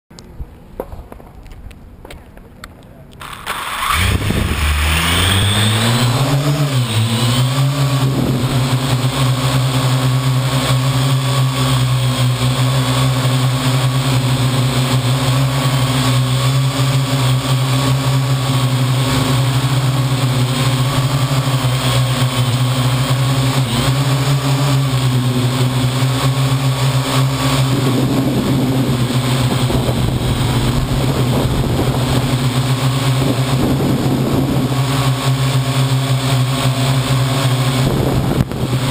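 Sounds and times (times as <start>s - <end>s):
drone motors whining: 3.2s - 38.9s.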